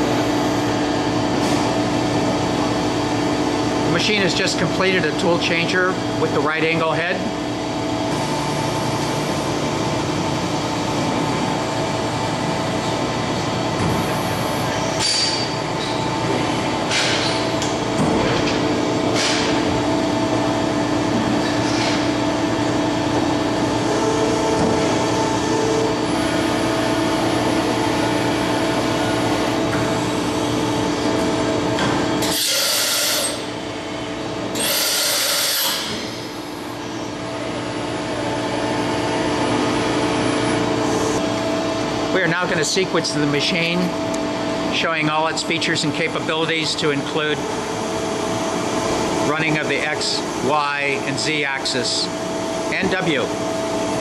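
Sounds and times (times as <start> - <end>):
machining center humming: 0.0 - 54.0.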